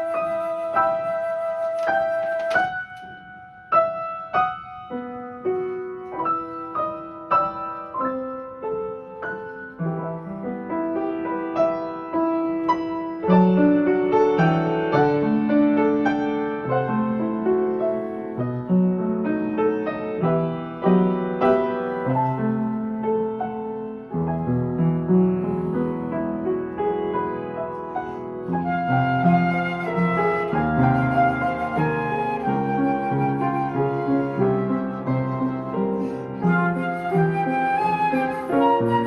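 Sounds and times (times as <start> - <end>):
piano chords with bass notes: 0.0 - 39.0
slow piano melody: 0.0 - 39.0.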